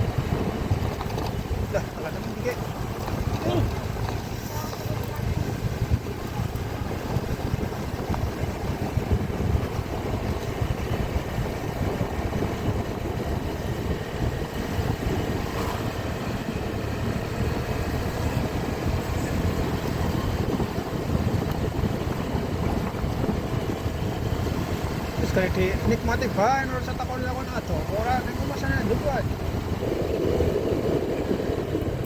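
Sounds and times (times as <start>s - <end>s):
vehicle engine and road rumble: 0.0s - 32.0s
wind buffeting microphone: 0.0s - 32.0s.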